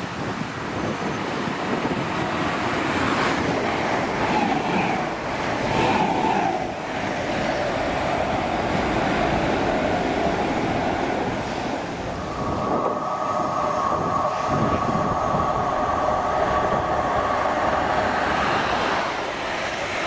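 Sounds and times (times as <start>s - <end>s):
train wheels rushing on rail: 0.0s - 20.0s
train whine: 0.0s - 20.0s.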